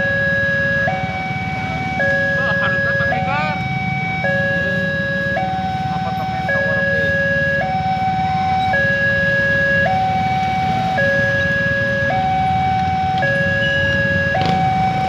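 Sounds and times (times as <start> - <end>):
engines idling rumble: 0.0 - 15.0
two-tone level-crossing alarm: 0.0 - 15.0.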